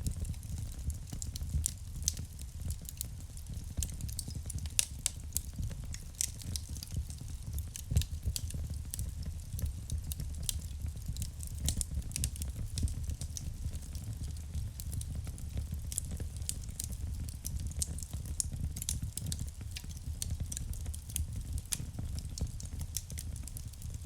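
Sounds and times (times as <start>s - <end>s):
fire rumbling: 0.0s - 24.0s
wood fire crackling and popping: 0.0s - 24.0s.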